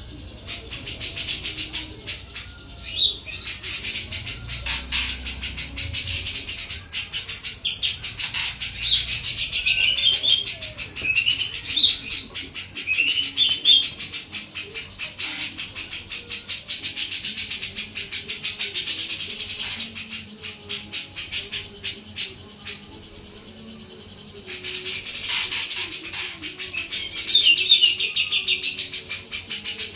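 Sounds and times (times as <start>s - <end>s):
bulbul singing chattering rattle: 0.4s - 29.9s.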